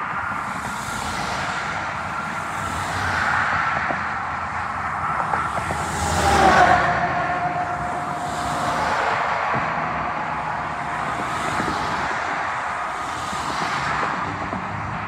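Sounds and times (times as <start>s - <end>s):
highway traffic passing: 0.0s - 15.0s.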